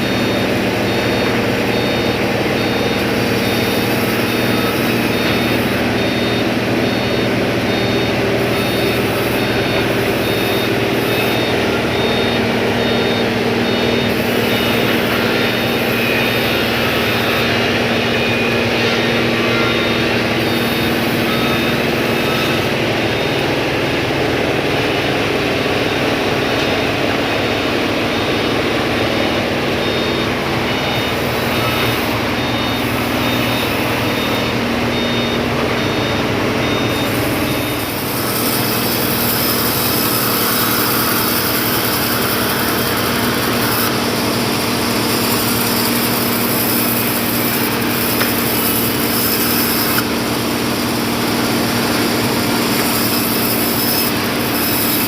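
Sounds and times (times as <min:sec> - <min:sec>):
forklift engine running: 0:00.0 - 0:55.0
reversing alarm beeping: 0:00.0 - 0:55.0.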